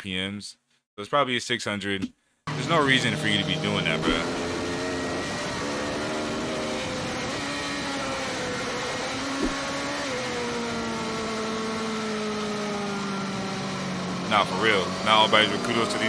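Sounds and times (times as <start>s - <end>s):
motorcycle engine revving hard: 2.5s - 16.0s
wind and road rush: 2.5s - 16.0s.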